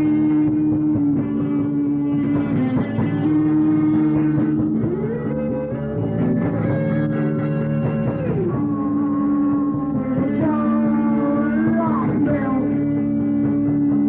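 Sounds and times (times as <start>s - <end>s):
live rock band playing: 0.0s - 14.0s
sliding guitar notes: 0.0s - 14.0s.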